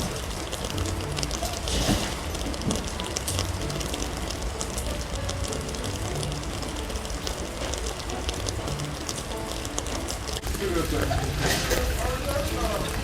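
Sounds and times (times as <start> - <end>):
rain drops ticking: 0.0 - 13.0.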